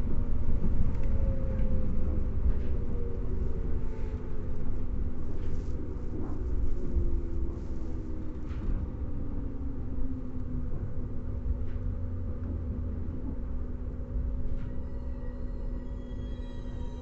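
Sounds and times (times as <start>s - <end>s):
train interior running rumble: 0.0s - 17.0s.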